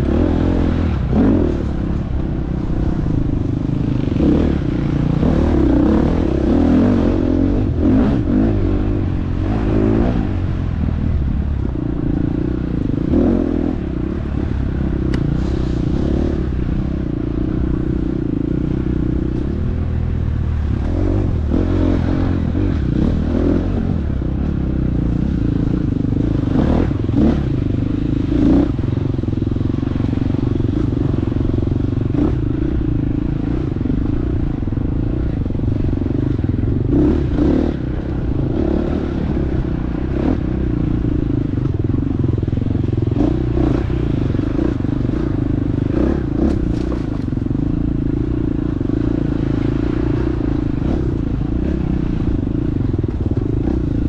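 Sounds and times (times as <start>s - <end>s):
dirt bike engine revving: 0.0s - 19.8s, 20.4s - 54.0s.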